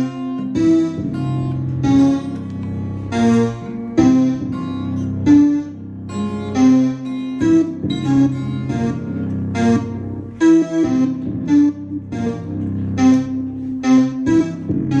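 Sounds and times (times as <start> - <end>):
piano keyboard melody: 0.0 - 15.0.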